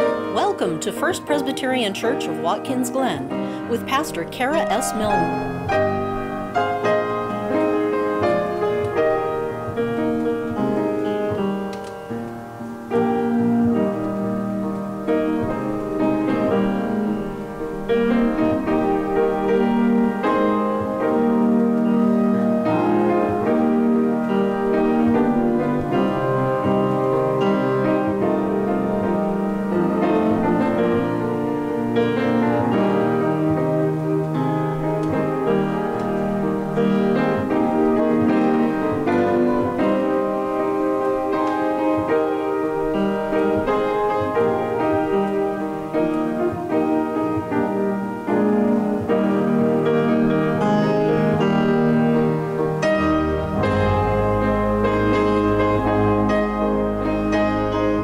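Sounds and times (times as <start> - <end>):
slow chordal piano music: 0.0 - 58.0.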